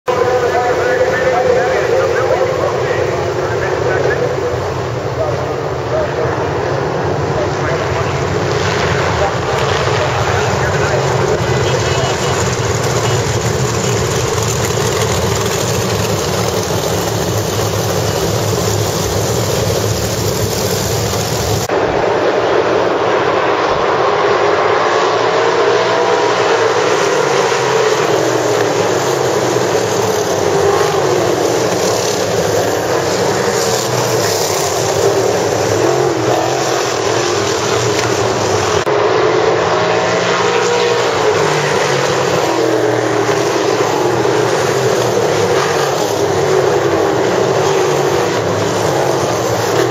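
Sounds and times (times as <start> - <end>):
race car engines droning: 0.0 - 49.9.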